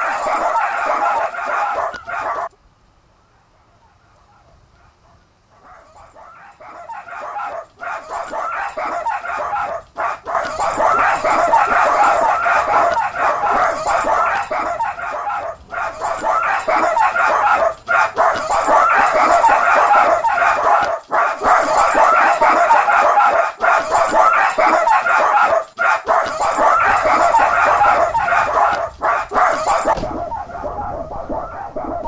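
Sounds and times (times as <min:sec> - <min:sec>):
small dogs yapping and barking: 0:00.0 - 0:02.6, 0:03.4 - 0:32.0.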